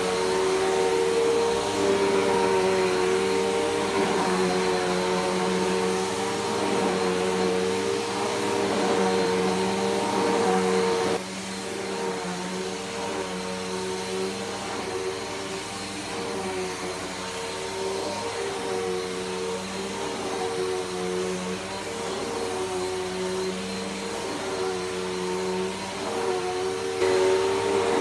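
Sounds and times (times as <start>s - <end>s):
upright vacuum cleaner running: 0.0s - 28.0s.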